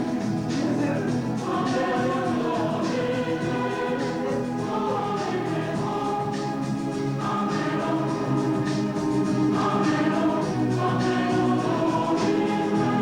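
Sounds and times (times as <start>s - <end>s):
choir singing sustained chords: 0.0s - 13.0s
instrumental accompaniment: 0.0s - 13.0s.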